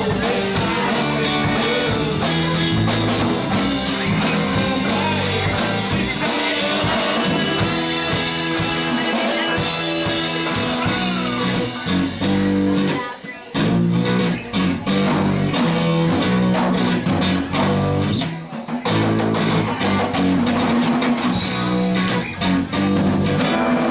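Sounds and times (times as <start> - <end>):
live rock band playing: 0.0 - 23.9.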